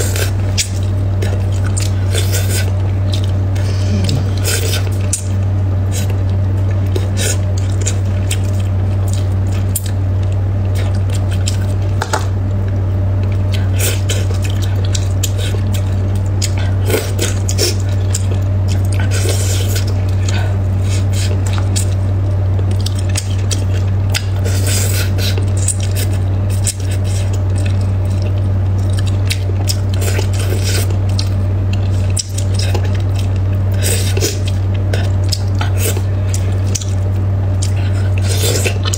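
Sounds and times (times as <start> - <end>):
wet chewing: 0.0 - 12.4, 13.2 - 38.9
steady low hum: 0.0 - 38.9.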